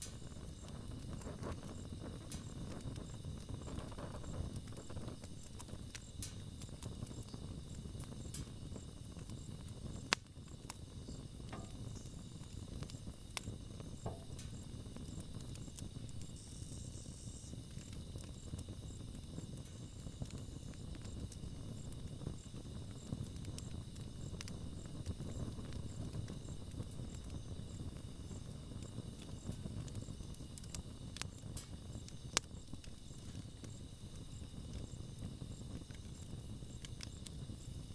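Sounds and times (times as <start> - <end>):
burning wood crackling and popping: 0.0 - 37.9
low rumble of flames: 0.0 - 37.9.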